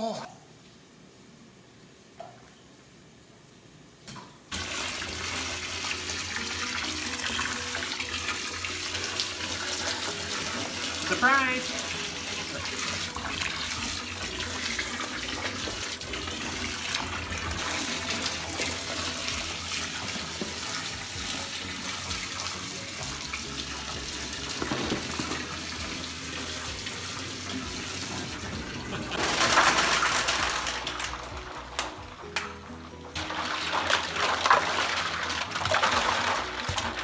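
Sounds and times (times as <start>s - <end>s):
hose water splashing into bowl: 4.5s - 32.0s, 33.2s - 37.0s.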